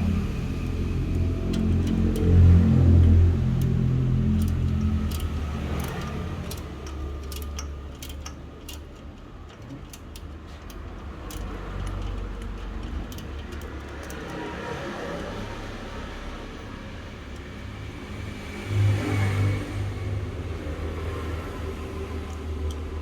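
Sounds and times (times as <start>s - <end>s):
low vehicle rumble: 0.0s - 23.0s.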